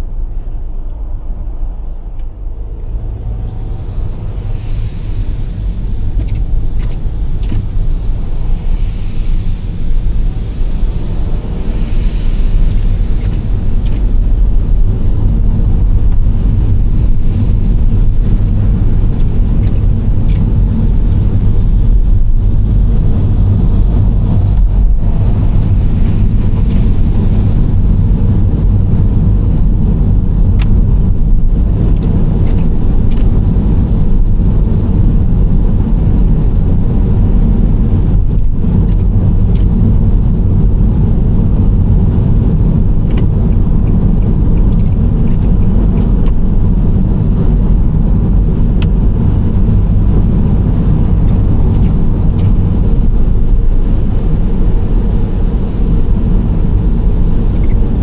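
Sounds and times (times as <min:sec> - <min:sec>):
minivan engine and tyre rumble: 0:00.0 - 0:58.0.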